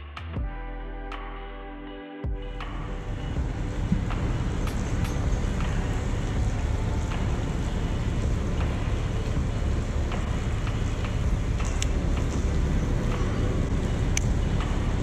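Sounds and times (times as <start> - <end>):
low outdoor rumble: 2.3 - 15.0.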